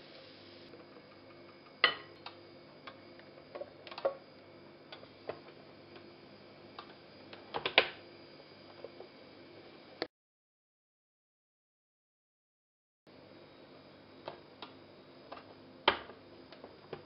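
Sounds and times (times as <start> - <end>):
faint steady hum: 0.0 - 10.1, 13.1 - 17.0.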